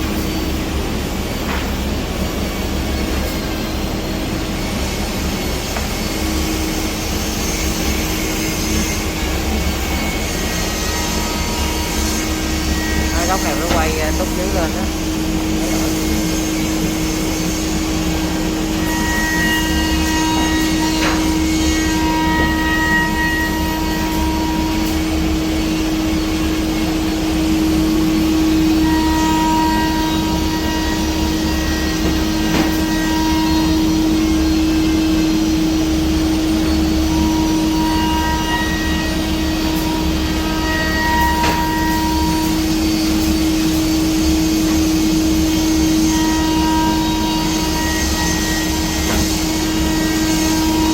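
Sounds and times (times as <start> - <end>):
cnc router machining wood: 0.0 - 50.9
high whining tool tones: 0.0 - 50.9.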